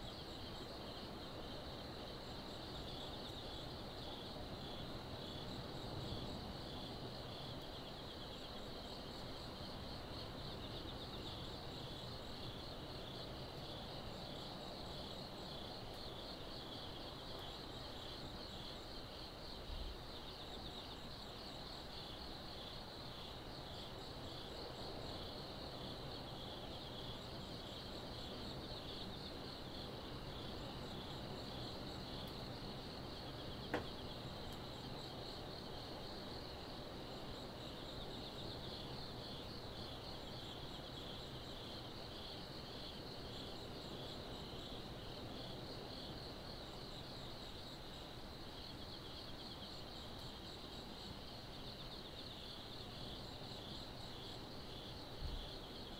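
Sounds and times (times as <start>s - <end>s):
night insects trilling: 0.0s - 55.9s.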